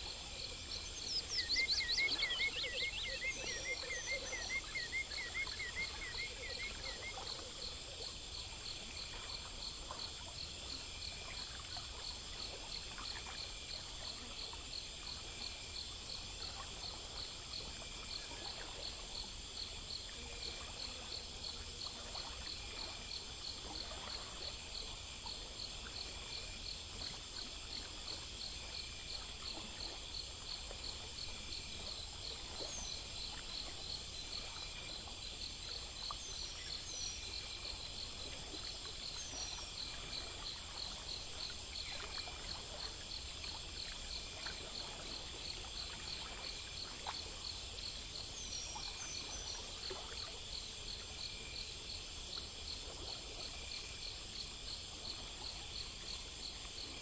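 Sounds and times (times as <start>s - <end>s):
insects chirping and buzzing: 0.0s - 57.0s.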